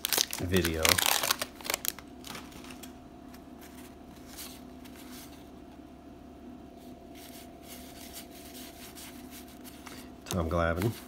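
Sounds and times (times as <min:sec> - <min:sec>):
steady low hum: 0:00.0 - 0:11.0
cards rustling and scraping: 0:00.8 - 0:05.5, 0:06.8 - 0:11.0.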